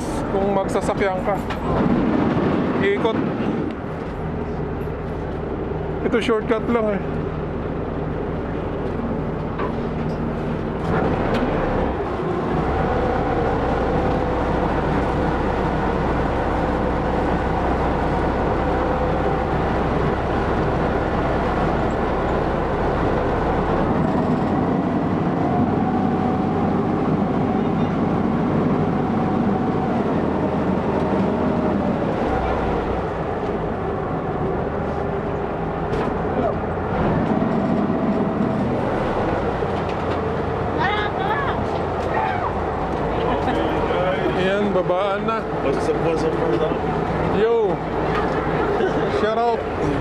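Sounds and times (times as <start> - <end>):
ferry engine running: 0.0 - 50.0.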